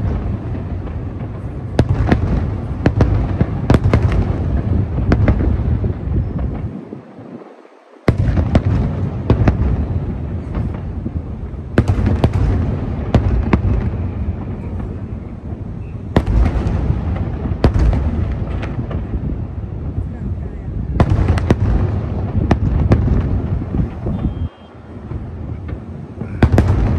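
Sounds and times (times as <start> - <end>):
low rumble of booms: 0.0 - 26.9.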